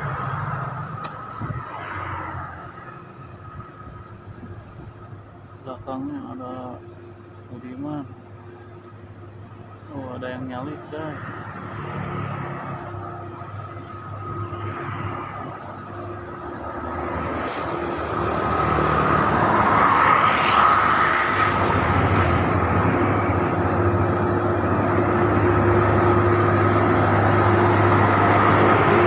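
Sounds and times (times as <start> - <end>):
heavy diesel engines labouring: 0.0 - 29.0
steady whine: 0.0 - 29.0.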